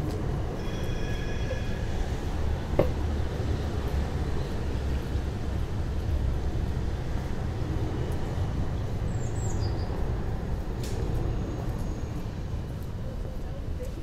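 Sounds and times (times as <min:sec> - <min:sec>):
vehicle rumble in traffic: 0:00.0 - 0:14.0.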